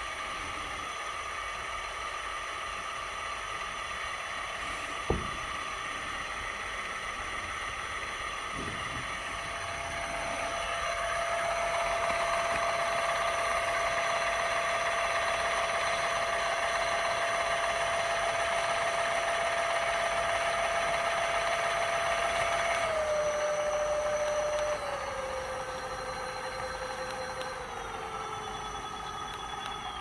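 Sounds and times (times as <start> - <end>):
electric motor whine: 0.0 - 30.0.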